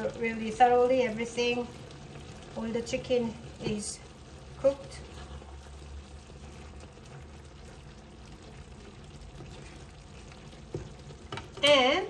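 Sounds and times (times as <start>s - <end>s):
stew being stirred: 0.0s - 12.0s.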